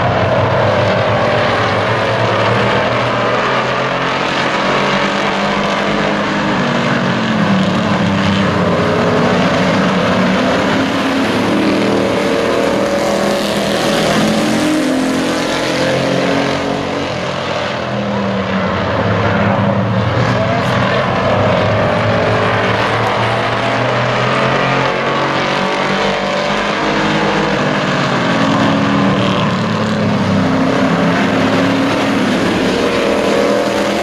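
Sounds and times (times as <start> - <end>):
race truck engines: 0.0 - 34.0.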